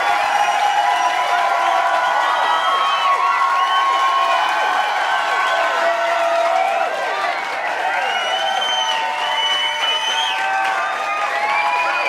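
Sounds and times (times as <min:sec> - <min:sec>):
crowd cheering and shouting: 0:00.0 - 0:12.0.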